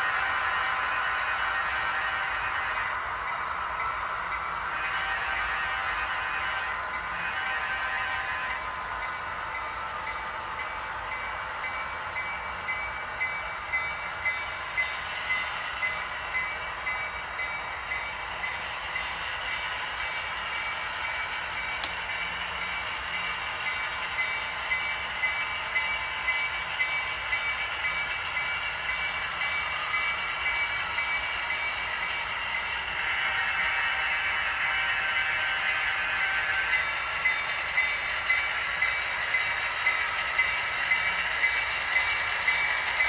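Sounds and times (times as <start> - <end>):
model train wheels on track: 0.0 - 43.0.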